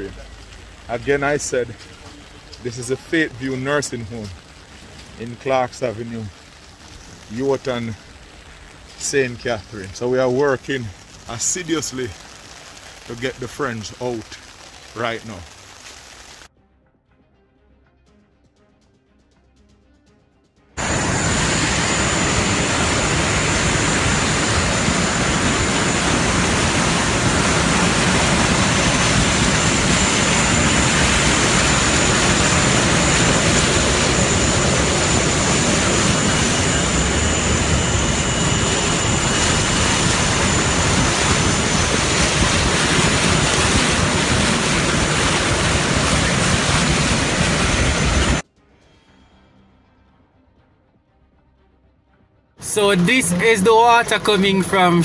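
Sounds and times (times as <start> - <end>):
jet engine roar with whine: 0.0 - 16.5, 20.8 - 48.4, 52.6 - 55.0.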